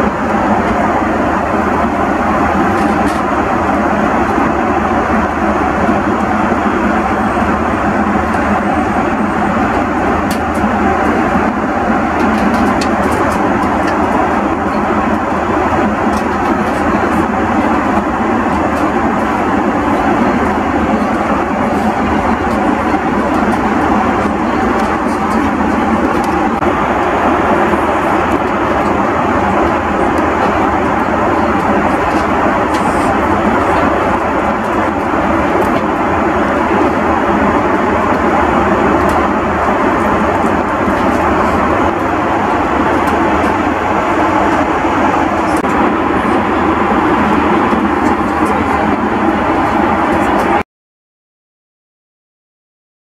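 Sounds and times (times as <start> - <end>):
airliner cabin noise: 0.0 - 50.6.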